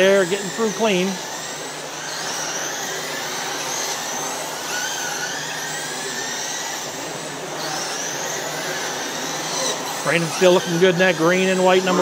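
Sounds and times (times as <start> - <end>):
electric motor whines: 0.0 - 12.0.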